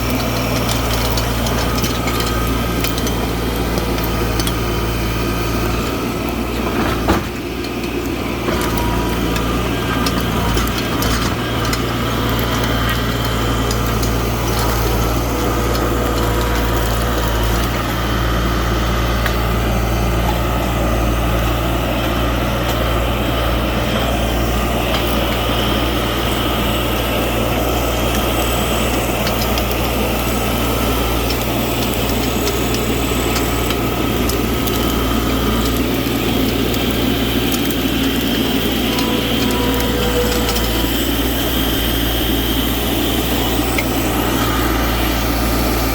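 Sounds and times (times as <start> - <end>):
skid steer engine running: 0.0 - 45.9.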